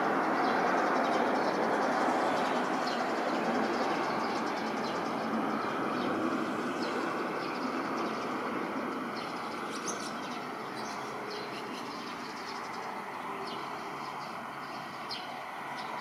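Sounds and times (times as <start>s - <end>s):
small birds chirping: 0.2s - 16.0s.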